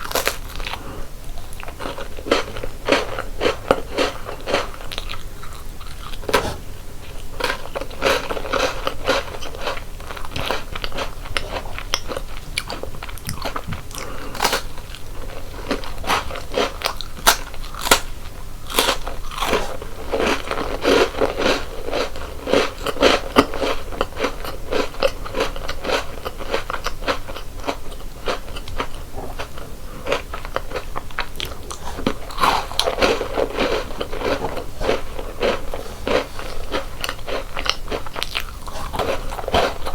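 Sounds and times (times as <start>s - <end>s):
crunchy snack chewing: 0.0s - 39.9s.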